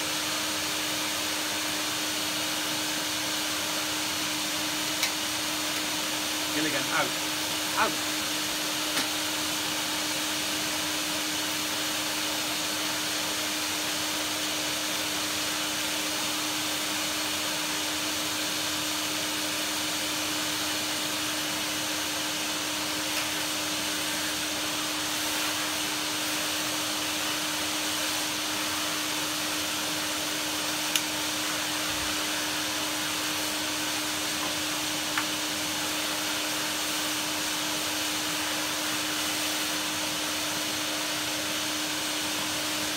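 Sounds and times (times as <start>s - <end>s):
vacuum cleaner motor running: 0.0s - 42.9s.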